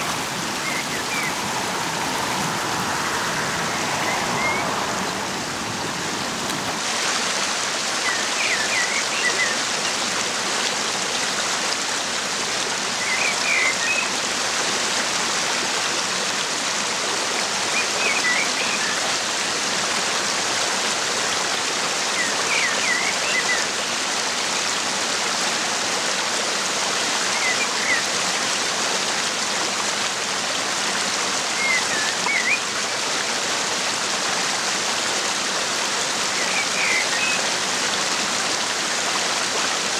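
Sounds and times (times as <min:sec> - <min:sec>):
rushing water and rain: 0:00.0 - 0:39.9.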